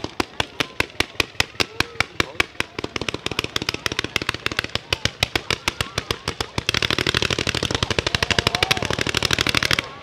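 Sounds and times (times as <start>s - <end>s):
fireworks bangs in rapid volley: 0.0s - 10.0s.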